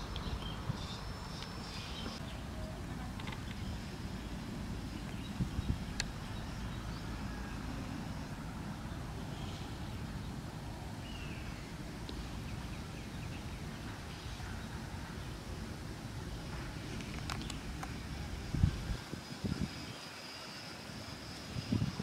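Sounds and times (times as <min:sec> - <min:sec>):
low outdoor rumble: 0:00.0 - 0:19.8.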